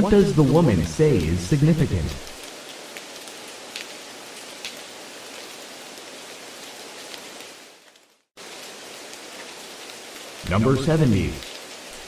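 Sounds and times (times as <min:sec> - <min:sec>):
rain-like hiss: 0:00.0 - 0:12.0.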